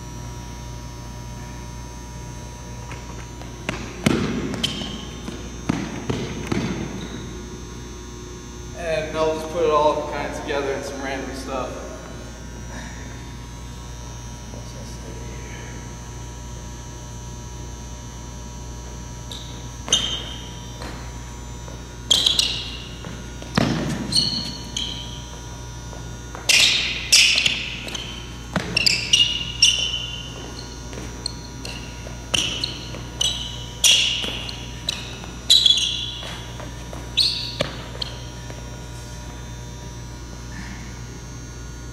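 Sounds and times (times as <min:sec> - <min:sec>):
steady hum: 0:00.0 - 0:41.9
sneakers squeaking on gym floor: 0:01.4 - 0:12.6, 0:17.7 - 0:41.3.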